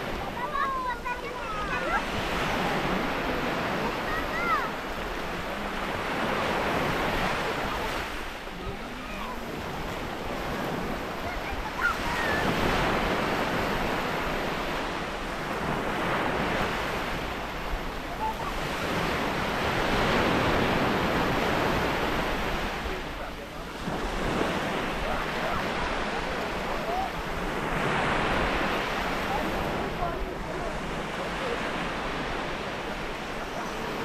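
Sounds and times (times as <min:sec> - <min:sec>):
waves washing over stony shore: 0:00.0 - 0:34.0.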